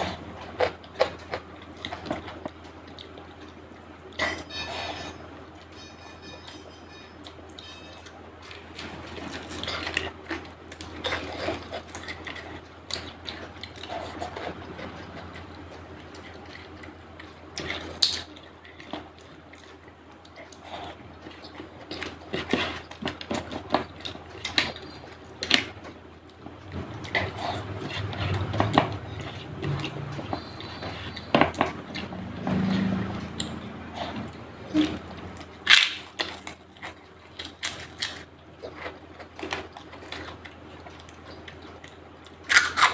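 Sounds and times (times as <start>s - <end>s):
wet chewing and mouth sounds: 0.0s - 5.8s, 7.2s - 42.9s.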